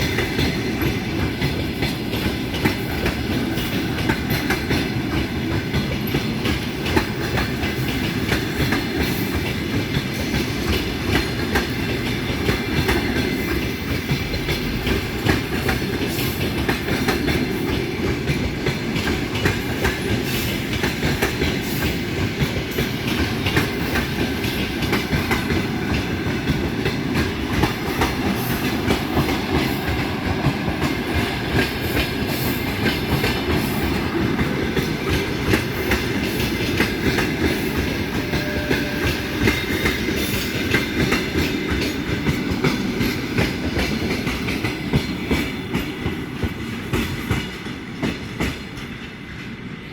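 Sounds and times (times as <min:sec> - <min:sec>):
train wheels clacking on rail joints: 0:00.0 - 0:49.7
train coaches rumbling past: 0:00.0 - 0:49.9.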